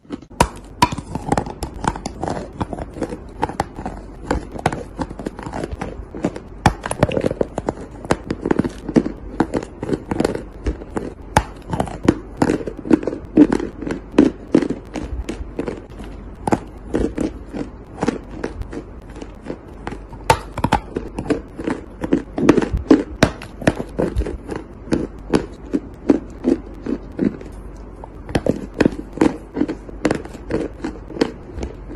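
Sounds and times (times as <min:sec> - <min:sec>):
chalk being chewed: 0:00.0 - 0:31.9.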